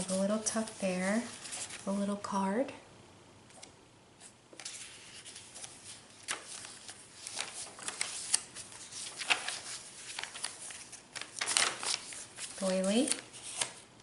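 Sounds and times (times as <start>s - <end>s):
paper pages rustling and flicking: 0.0s - 2.0s, 4.5s - 13.9s.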